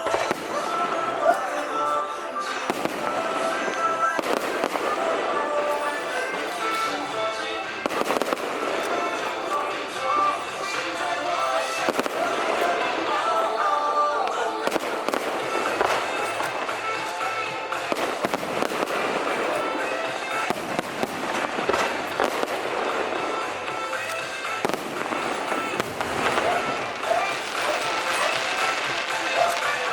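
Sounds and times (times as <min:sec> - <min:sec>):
fireworks popping and banging: 0:00.0 - 0:29.9
music with held melodic notes: 0:00.0 - 0:29.9.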